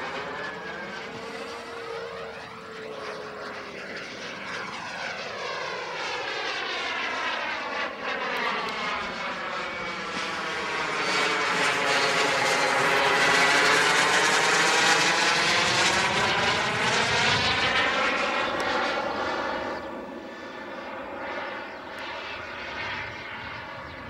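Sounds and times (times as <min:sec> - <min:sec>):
model jet turbine rushing: 0:00.0 - 0:24.0.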